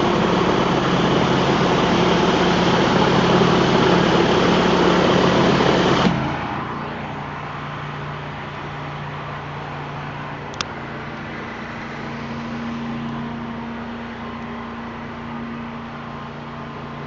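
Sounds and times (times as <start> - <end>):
pressure washer jet hissing: 0.0 - 15.4
engine droning: 0.0 - 17.0.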